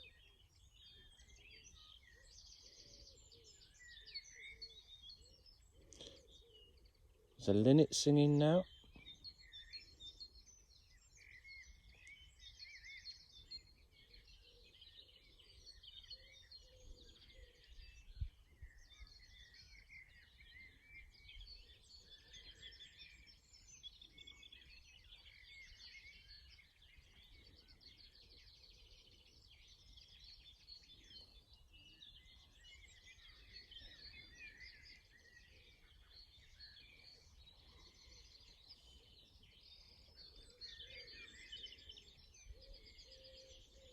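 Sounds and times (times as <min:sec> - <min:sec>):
small birds twittering: 0:00.0 - 0:43.9.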